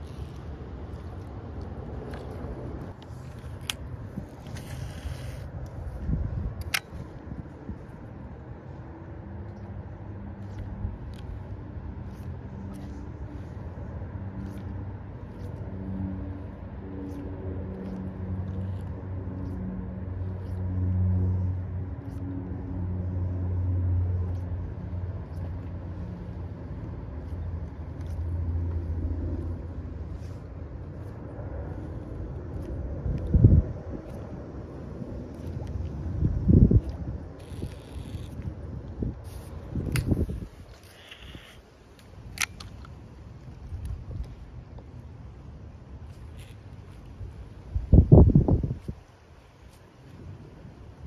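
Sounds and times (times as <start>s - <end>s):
passing traffic engine hum: 0.0s - 51.0s.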